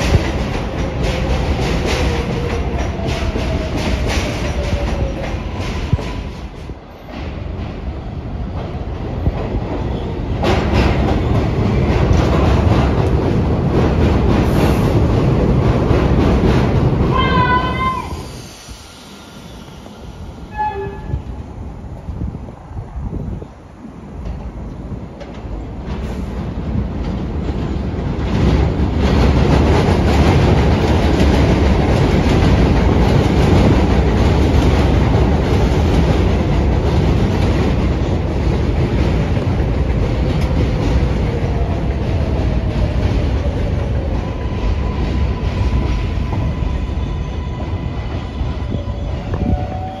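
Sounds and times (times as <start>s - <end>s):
train wheels clattering on rails: 0.0s - 17.9s, 24.2s - 50.0s.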